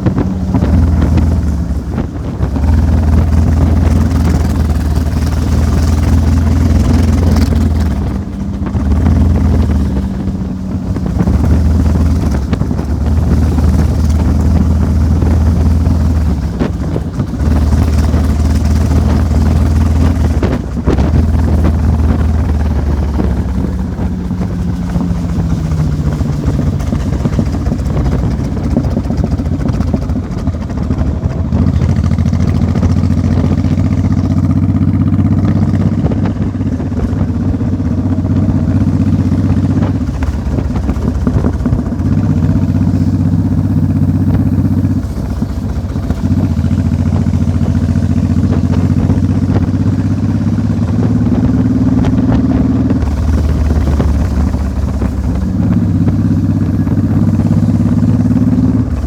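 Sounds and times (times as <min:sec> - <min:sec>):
engine running: 0:00.0 - 0:59.0
wind noise on microphone: 0:00.0 - 0:59.0.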